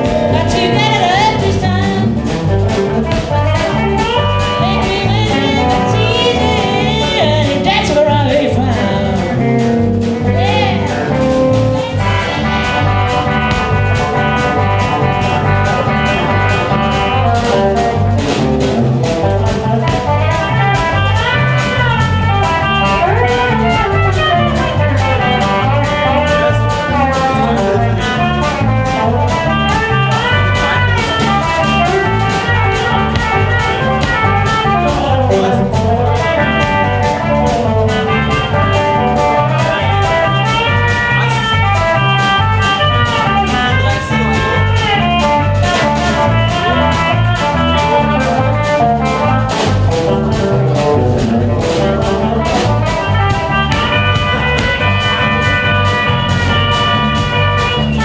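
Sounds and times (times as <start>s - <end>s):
bass line: 0.0s - 58.0s
blues-rock band playing: 0.0s - 58.0s
drum beat: 0.0s - 58.0s
lead melody bending: 0.0s - 58.0s.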